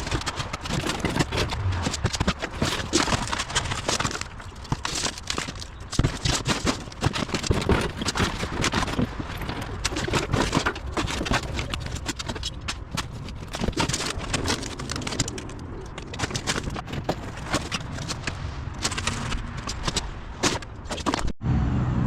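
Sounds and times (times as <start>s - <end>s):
scrap clattering and knocking: 0.0s - 21.4s.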